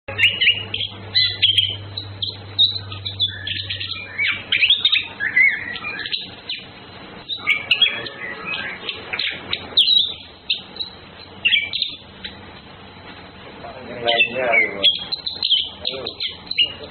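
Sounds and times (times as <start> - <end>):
thrush whistles and chirps: 0.1 - 12.4, 13.6 - 16.9.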